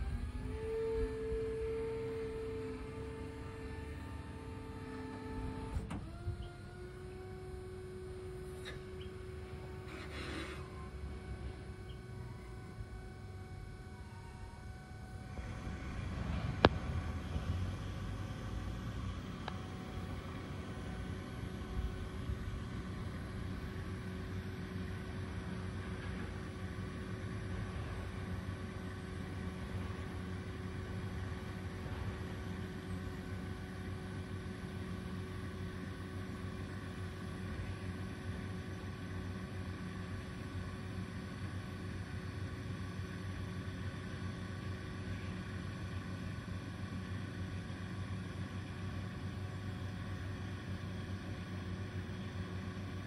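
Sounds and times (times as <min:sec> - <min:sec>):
motor and hydraulic pump running: 0:00.0 - 0:53.0.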